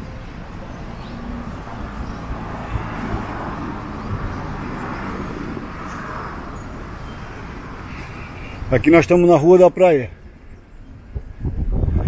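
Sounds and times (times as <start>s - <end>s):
vehicle passing: 0.0s - 11.4s.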